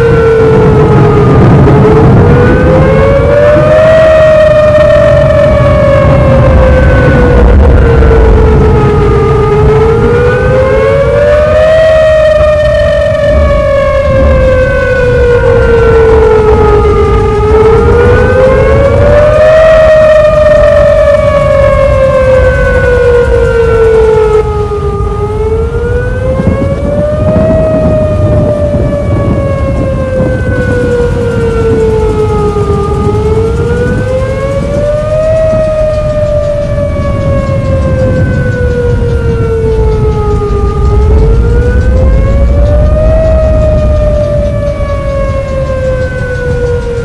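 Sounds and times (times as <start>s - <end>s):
heavy low rumble: 0.0s - 47.0s
tornado siren wailing: 0.0s - 47.0s.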